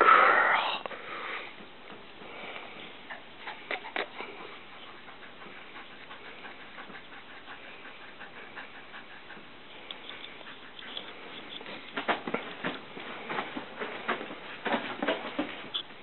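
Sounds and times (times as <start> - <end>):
dog panting: 2.3 - 15.8.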